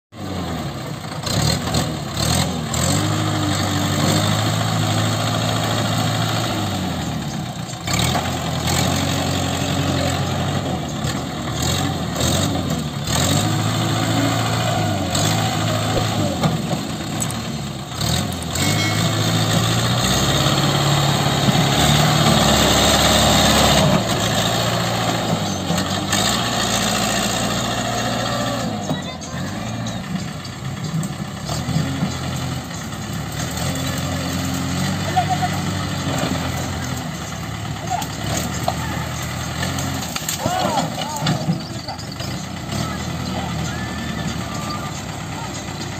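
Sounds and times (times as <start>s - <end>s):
diesel engine under load: 0.1s - 45.9s.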